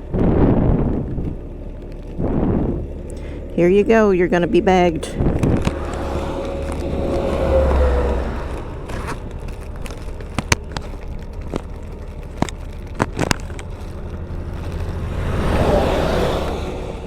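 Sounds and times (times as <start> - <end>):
low steady rumble: 0.0 - 17.0
plastic bag crackling: 0.0 - 17.0.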